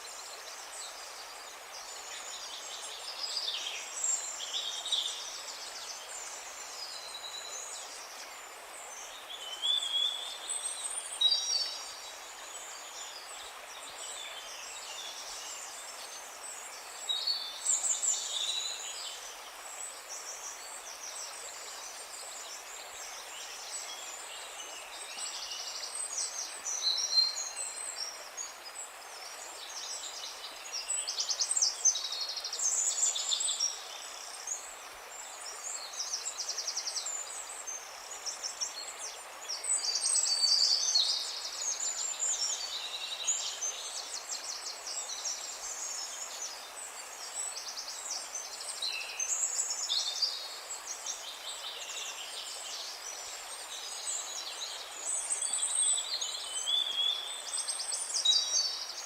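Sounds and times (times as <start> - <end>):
soft steady hiss: 0.0 - 59.0.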